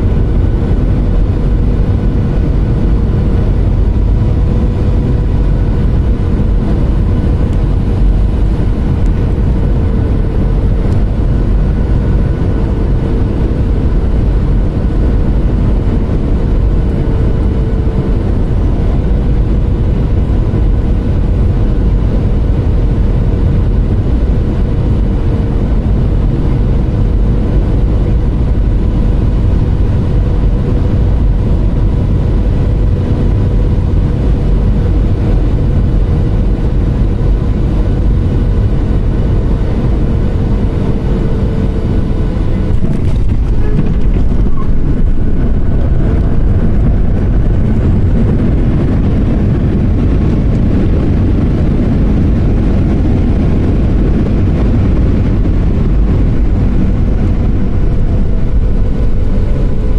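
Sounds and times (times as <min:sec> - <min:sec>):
airliner engines and rushing air: 0:00.0 - 0:59.9
steady hum: 0:00.0 - 0:59.9.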